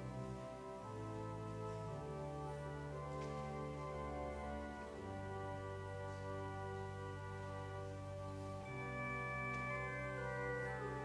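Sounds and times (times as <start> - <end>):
church organ chords: 0.0 - 11.0.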